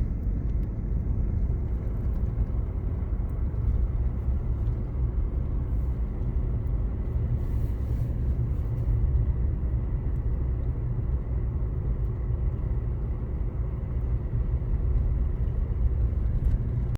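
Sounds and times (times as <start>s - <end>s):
car driving on road rumble: 0.0s - 16.9s.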